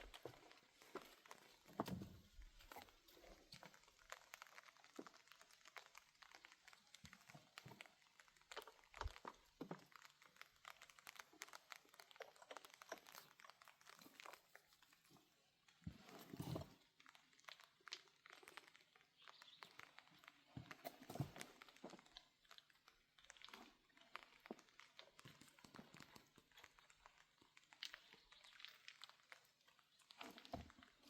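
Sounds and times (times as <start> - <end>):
crunching and rustling clicks: 0.0 - 31.0.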